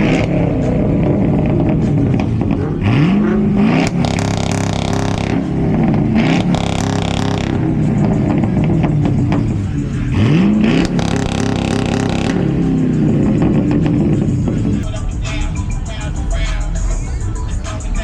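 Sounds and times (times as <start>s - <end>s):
car engine revving hard: 0.0s - 14.8s.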